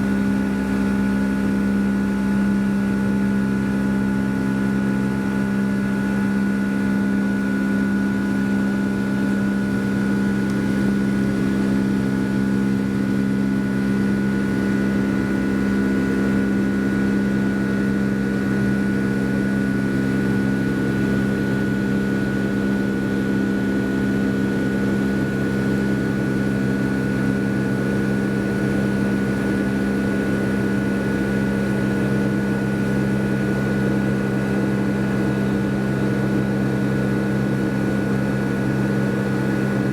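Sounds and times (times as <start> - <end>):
high engine whine: 0.0 - 39.9
jet engine drone in cabin: 0.0 - 39.9
low engine hum: 0.0 - 39.9.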